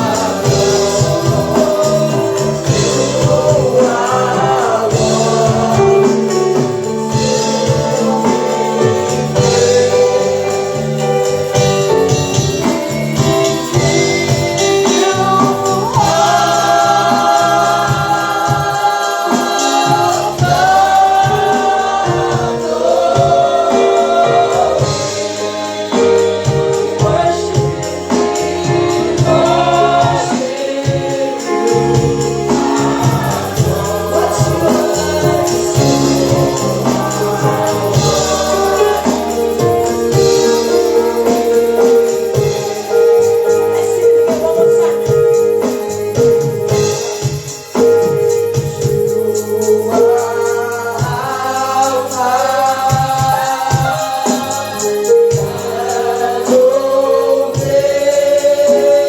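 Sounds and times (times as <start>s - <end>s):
bass: 0.0s - 59.0s
choir singing: 0.0s - 59.0s
keyboard: 0.0s - 59.0s
tambourine: 0.0s - 59.0s.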